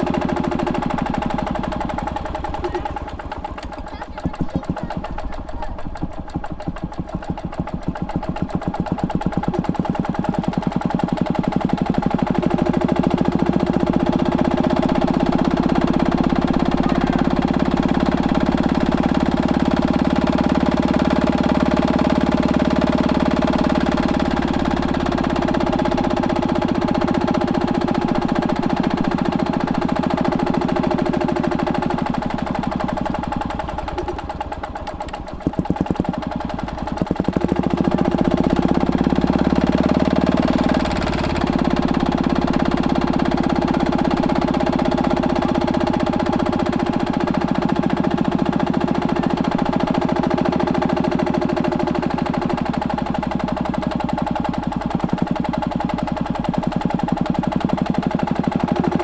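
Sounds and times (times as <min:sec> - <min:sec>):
stationary engine running: 0:00.0 - 0:59.0.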